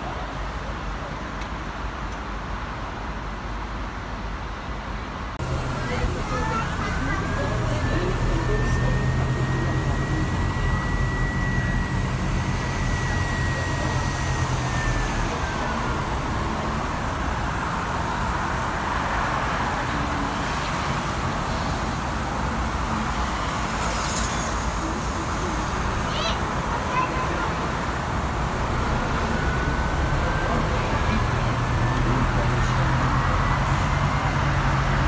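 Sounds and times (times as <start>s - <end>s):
bus engine drone: 0.0s - 35.0s
road and traffic noise: 0.0s - 35.0s
high whine sliding down: 5.4s - 35.0s.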